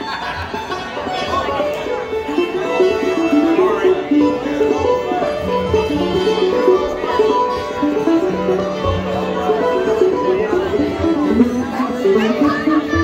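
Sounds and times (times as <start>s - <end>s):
bluegrass band playing: 0.0s - 13.0s.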